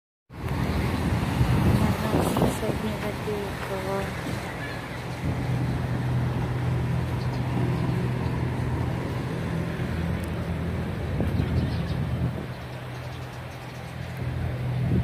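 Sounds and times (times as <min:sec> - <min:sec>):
street traffic noise: 0:00.3 - 0:15.0
vehicle engine humming: 0:00.3 - 0:15.0.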